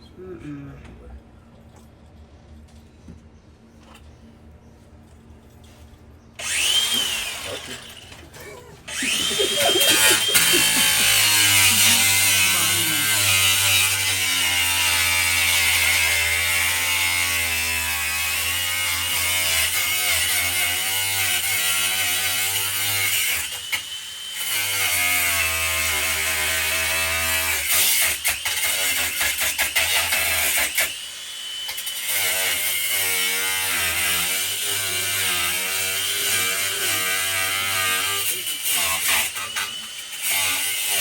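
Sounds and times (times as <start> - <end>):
electric power tool running: 6.4 - 41.0.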